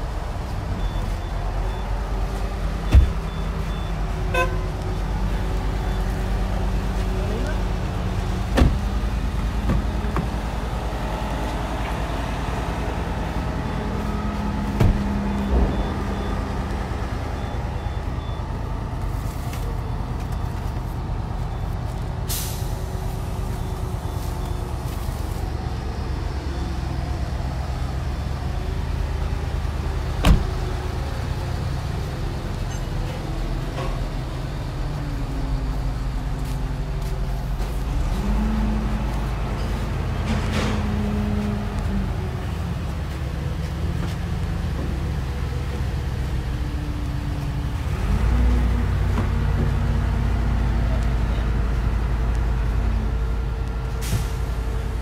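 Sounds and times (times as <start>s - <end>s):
engine idling low rumble: 0.0s - 55.0s.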